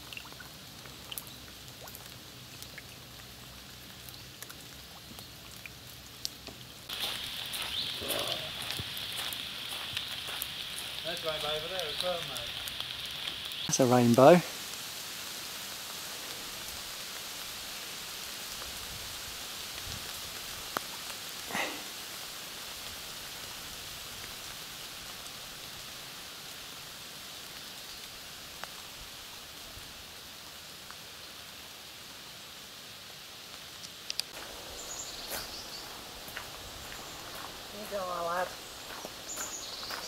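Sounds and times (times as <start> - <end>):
light rain falling: 0.0 - 40.0.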